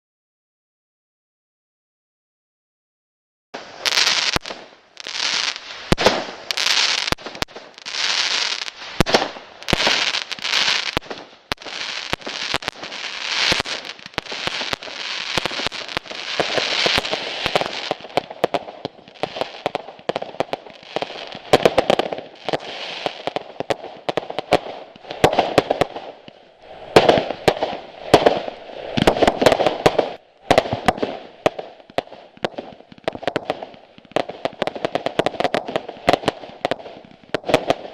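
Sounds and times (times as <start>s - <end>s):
fireworks cracks and bangs: 3.6s - 37.9s
fireworks hissing rushes: 3.6s - 37.9s.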